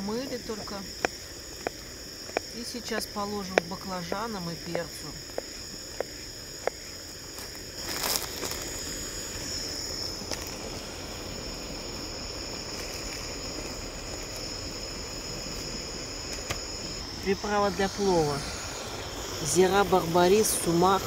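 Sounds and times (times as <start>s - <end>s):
camping stove hissing: 0.0s - 21.0s
crickets chirring: 0.0s - 21.0s.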